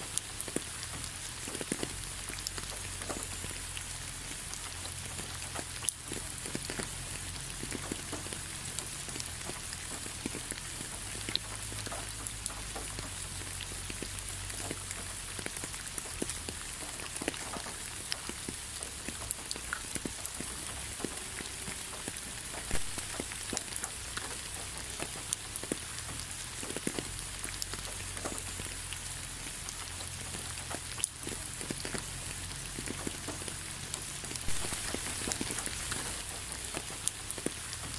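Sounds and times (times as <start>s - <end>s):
raindrops clicking: 0.0s - 37.9s
steady rain falling: 0.0s - 37.9s.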